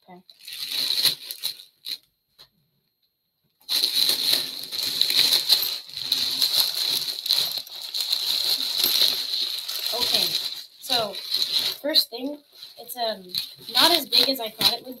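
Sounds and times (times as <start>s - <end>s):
plastic bag crinkling: 0.3s - 2.0s, 3.6s - 15.0s.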